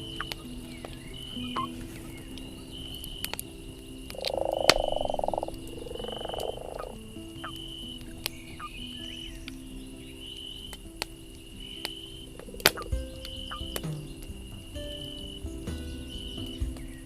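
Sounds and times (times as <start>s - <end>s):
frog croaking: 0.0s - 15.4s
campfire crackling: 0.0s - 17.0s
soft sustained music notes: 0.0s - 17.0s.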